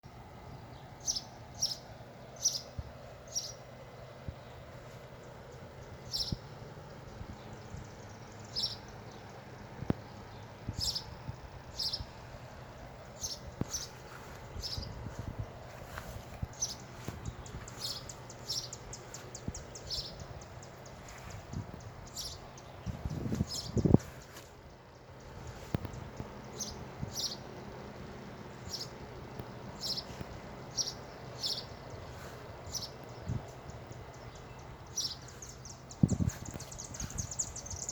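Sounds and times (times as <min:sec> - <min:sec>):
steady outdoor hiss: 0:00.0 - 0:37.9
small bird chirping: 0:00.7 - 0:03.7, 0:05.2 - 0:12.2, 0:13.1 - 0:37.9.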